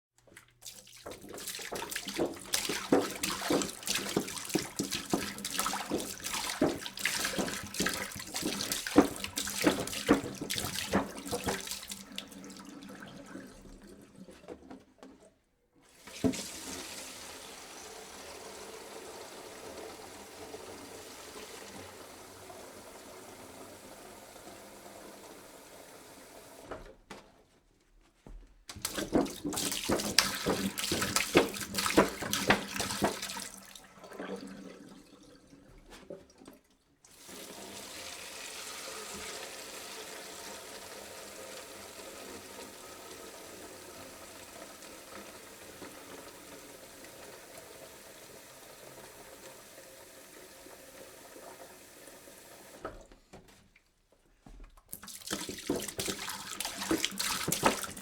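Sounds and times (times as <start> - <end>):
water pouring into a jug: 0.3 - 14.5, 15.9 - 25.8, 28.8 - 53.1, 54.9 - 58.0.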